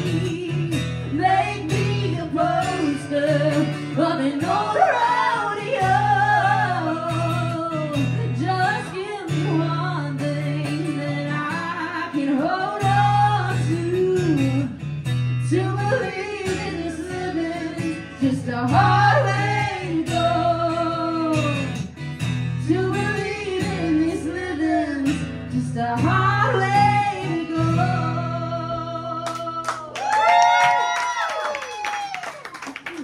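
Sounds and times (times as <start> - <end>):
woman singing: 0.0 - 14.8, 15.4 - 21.8, 22.6 - 30.0
strummed acoustic guitar: 0.0 - 29.6.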